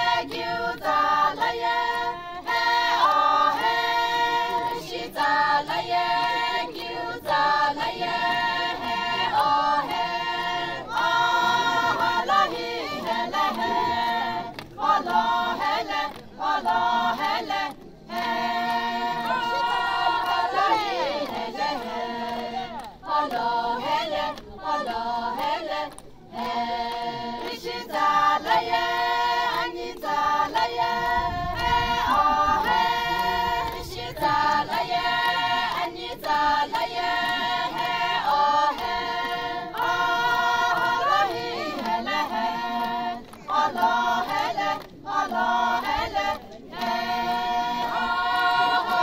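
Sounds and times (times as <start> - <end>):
women singing together: 0.0 - 49.0.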